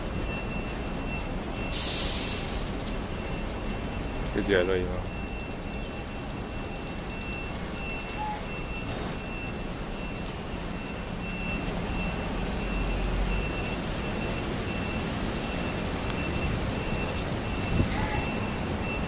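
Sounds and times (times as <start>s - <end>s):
low engine rumble: 0.0s - 19.0s
reversing alarm beeping: 0.0s - 19.0s.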